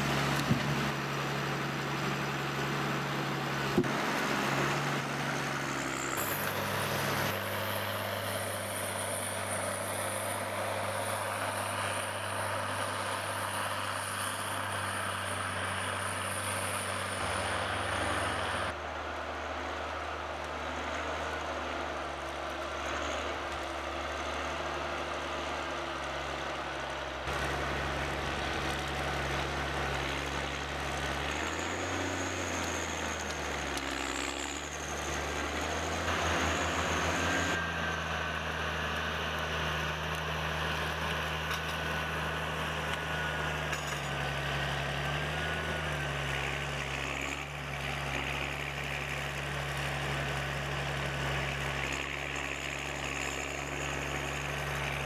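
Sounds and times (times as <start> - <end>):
heavy machinery engines running: 0.0 - 55.0.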